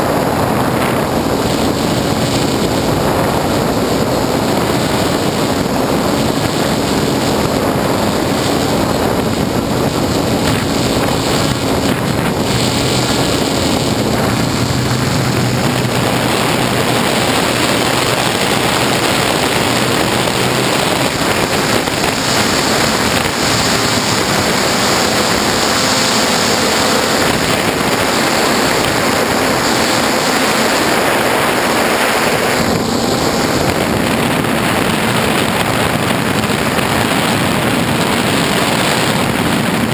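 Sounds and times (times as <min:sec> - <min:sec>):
faint motor hum: 0:00.0 - 0:37.2
quadcopter propellers whirring: 0:00.0 - 0:39.9
wind noise on microphone: 0:00.0 - 0:39.9.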